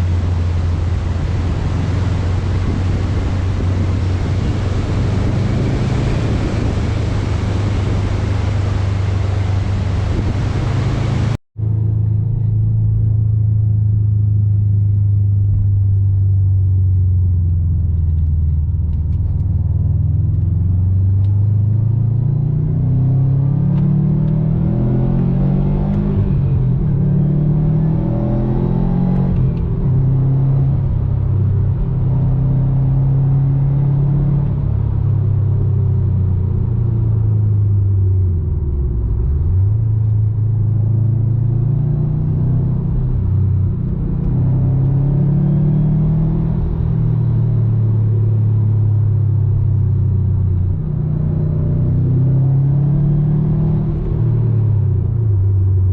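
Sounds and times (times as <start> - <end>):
car engine revving while driving: 0.0 - 13.0, 13.7 - 55.9.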